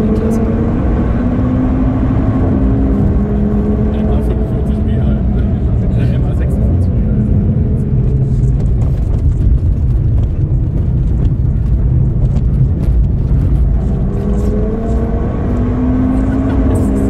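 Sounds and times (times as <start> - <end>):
car engine accelerating: 0.0 - 17.0
road rumble: 0.0 - 17.0.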